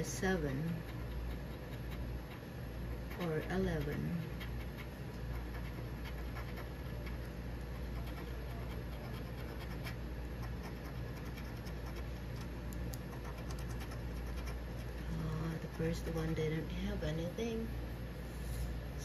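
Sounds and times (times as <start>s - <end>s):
coin scratching lottery ticket: 0.0s - 16.6s.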